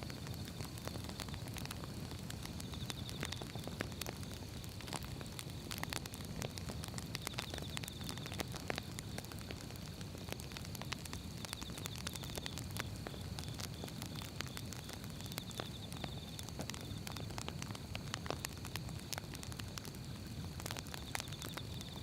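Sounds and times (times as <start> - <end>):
fire rumbling: 0.0 - 22.0
wood crackling and popping: 0.0 - 22.0.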